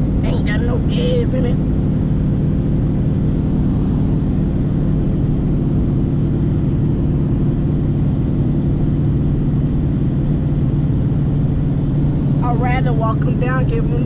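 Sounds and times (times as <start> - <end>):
car engine hum: 0.0 - 14.0
road noise rumble: 0.0 - 14.0.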